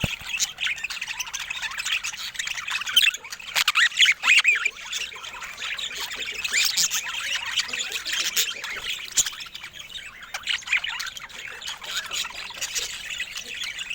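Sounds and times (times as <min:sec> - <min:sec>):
budgerigars chattering: 0:00.0 - 0:13.9.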